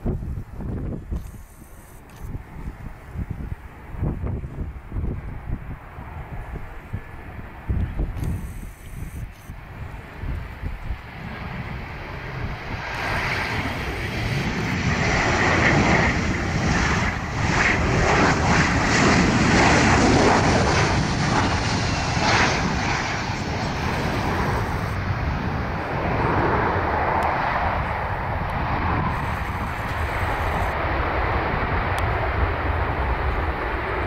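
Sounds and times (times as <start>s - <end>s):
jet airliner engine roar: 0.0s - 34.0s.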